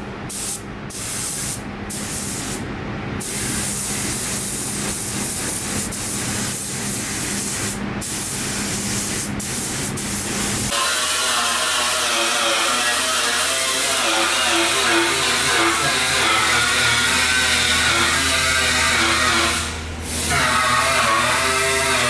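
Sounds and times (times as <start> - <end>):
compressed air hissing from air tool: 0.3 - 2.6, 3.2 - 12.6, 13.2 - 20.5.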